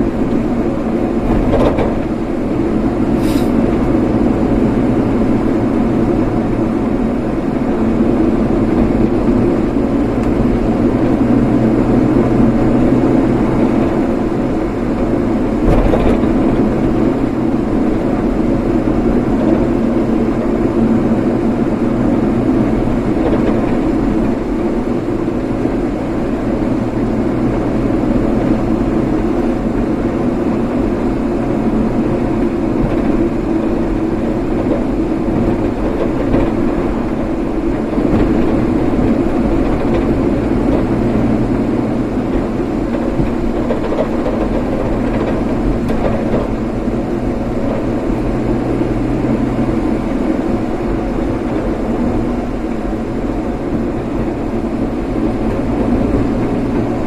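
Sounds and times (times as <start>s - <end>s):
vehicle tyre and engine noise: 0.0s - 57.0s.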